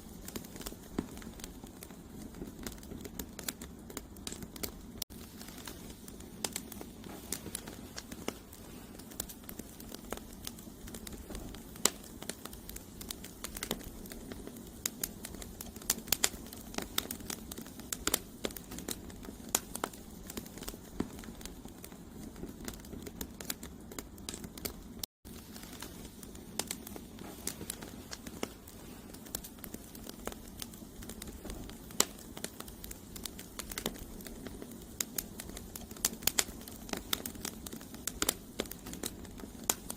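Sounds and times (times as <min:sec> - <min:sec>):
campfire crackling and popping: 0:00.0 - 0:39.9
low rush of flame: 0:00.0 - 0:39.9.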